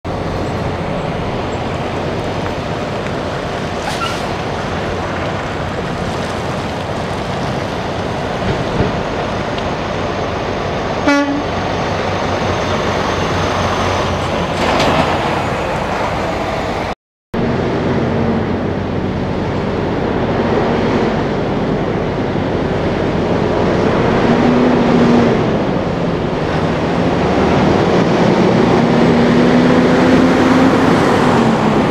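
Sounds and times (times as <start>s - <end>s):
trucks rolling past: 0.0s - 31.9s
truck engine pulling away: 0.1s - 31.9s.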